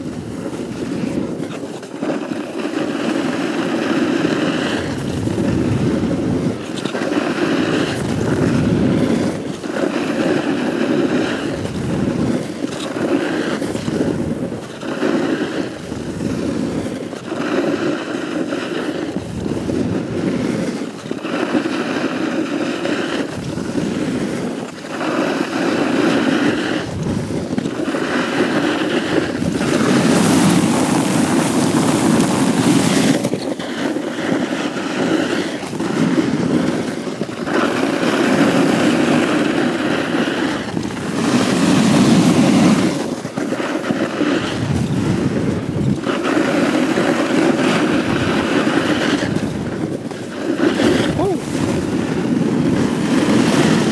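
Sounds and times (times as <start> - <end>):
snowboard carving through snow: 0.0 - 53.9.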